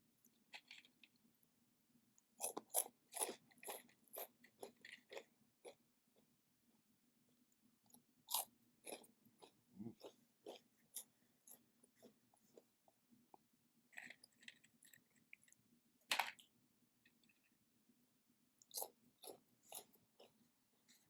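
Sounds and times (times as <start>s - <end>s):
chewing crunchy snacks: 0.2s - 1.3s, 2.2s - 6.3s, 7.8s - 17.6s, 18.6s - 21.0s.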